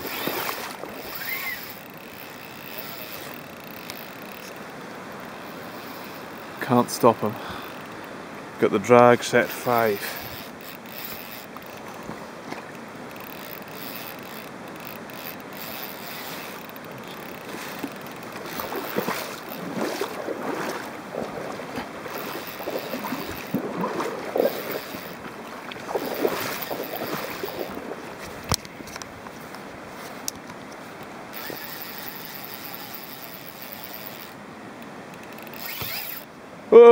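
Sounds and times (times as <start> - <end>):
fly reel spinning against drag: 0.0 - 8.2, 9.1 - 21.0, 22.0 - 27.8, 31.3 - 36.3.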